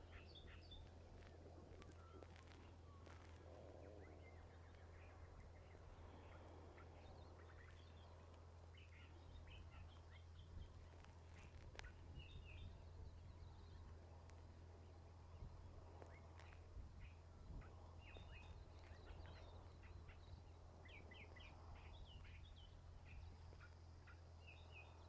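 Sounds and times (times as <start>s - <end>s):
faint bird chirps: 0.0s - 14.2s, 14.9s - 25.0s
steady low hum: 0.0s - 25.0s.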